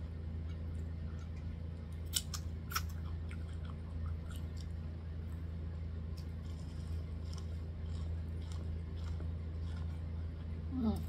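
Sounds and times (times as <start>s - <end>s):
person chewing corn: 0.4s - 4.9s, 6.0s - 11.0s.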